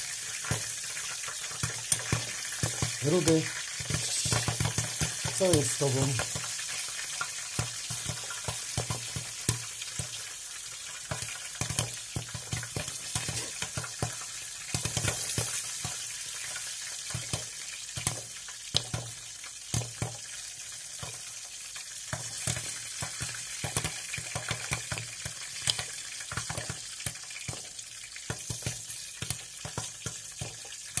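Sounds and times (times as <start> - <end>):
popcorn sizzling and popping: 0.0 - 31.0.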